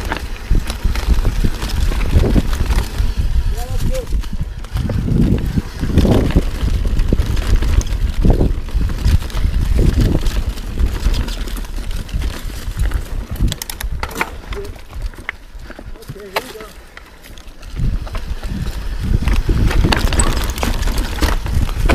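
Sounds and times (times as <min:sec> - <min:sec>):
bike rattling and knocking: 0:00.0 - 0:21.9
wind rumble on microphone: 0:00.0 - 0:21.9.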